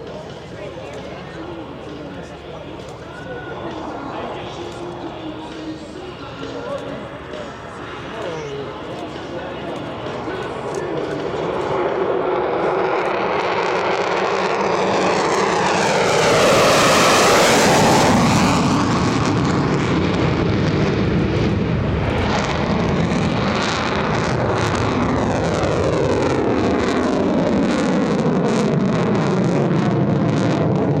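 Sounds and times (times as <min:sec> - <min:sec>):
fighter jet flying past: 0:01.0 - 0:31.0.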